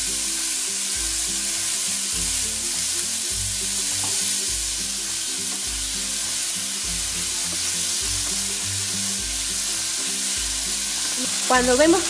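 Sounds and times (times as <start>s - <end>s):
background music: 0.0s - 12.0s
chicken sizzling in hot oil: 0.0s - 12.0s.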